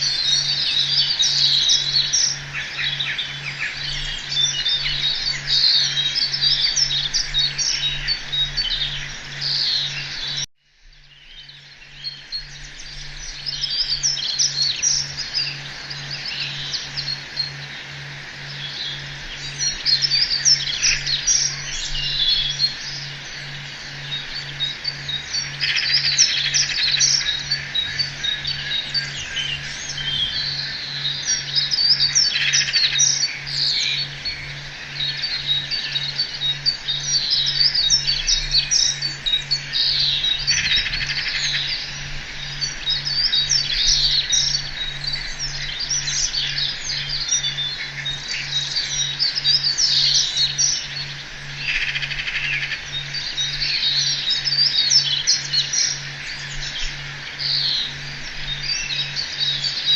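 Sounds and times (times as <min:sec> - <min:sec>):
birds chirping and trilling: 0:00.0 - 0:59.9
low pulsing hum: 0:00.0 - 0:59.9.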